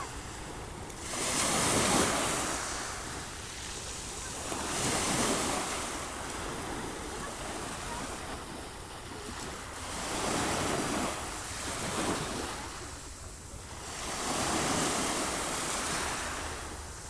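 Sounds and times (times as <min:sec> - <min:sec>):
sea waves surging: 0:00.0 - 0:17.0.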